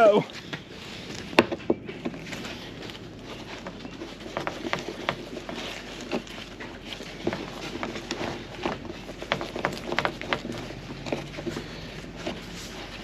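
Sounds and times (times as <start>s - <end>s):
hand tools knocking and scraping: 1.2s - 13.0s.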